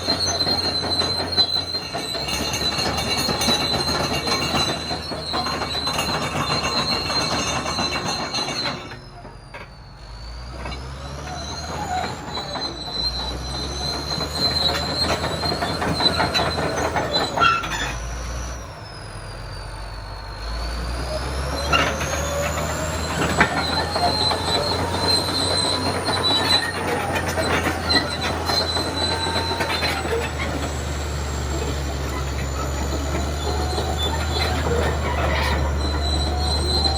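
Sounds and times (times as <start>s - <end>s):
bulldozer running on tracks: 0.0s - 36.9s
tracks squealing and clattering: 0.0s - 36.9s.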